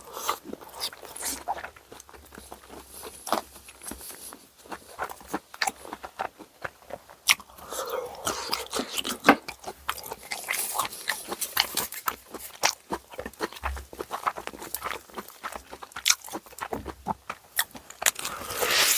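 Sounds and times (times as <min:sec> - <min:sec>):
chewing and crunching: 0:00.0 - 0:18.9.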